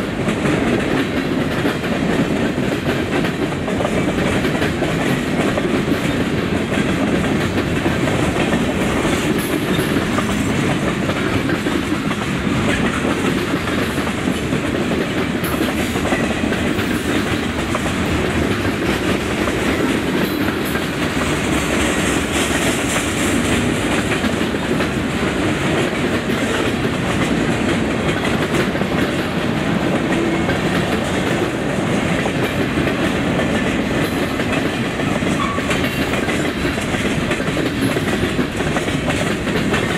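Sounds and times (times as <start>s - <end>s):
train wheels rumbling on rails: 0.0s - 39.9s
wheels clicking over rail joints: 0.0s - 39.9s.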